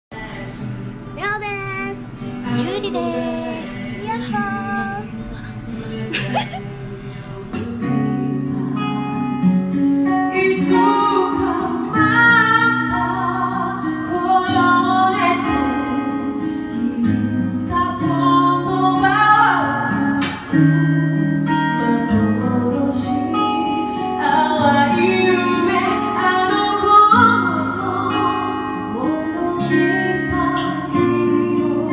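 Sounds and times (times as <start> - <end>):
guitar accompaniment: 0.1 - 31.9
woman singing: 0.2 - 9.4, 10.0 - 20.2, 21.7 - 31.9.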